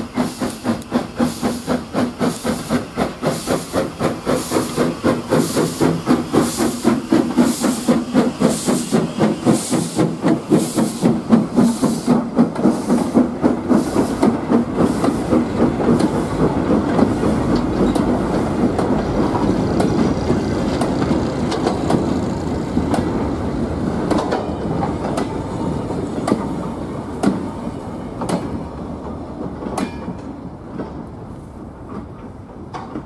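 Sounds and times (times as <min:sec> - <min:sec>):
train wagons rumbling past: 0:00.0 - 0:33.0
wheels clicking over rail joints: 0:00.2 - 0:23.3, 0:23.9 - 0:25.5, 0:28.2 - 0:31.1, 0:31.8 - 0:33.0.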